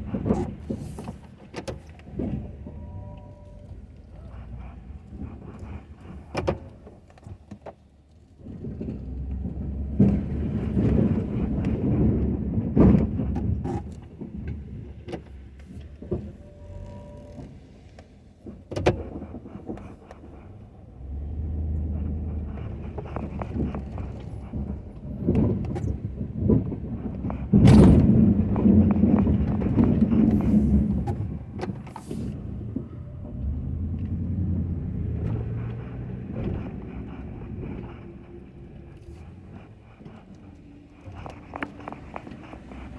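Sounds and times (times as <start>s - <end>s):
pickup truck engine pulling: 0.0s - 42.9s.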